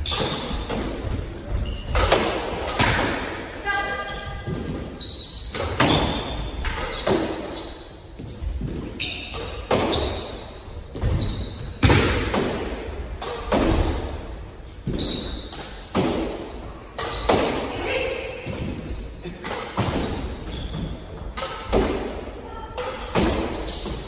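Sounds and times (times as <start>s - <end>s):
squash ball hitting racquets: 0.0s - 3.6s, 4.4s - 24.0s.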